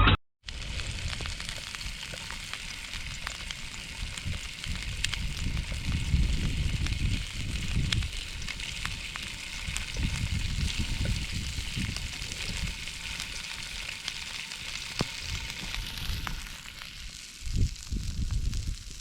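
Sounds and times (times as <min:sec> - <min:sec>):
campfire crackling: 0:00.4 - 0:19.0
fire pops and snaps: 0:00.4 - 0:19.0.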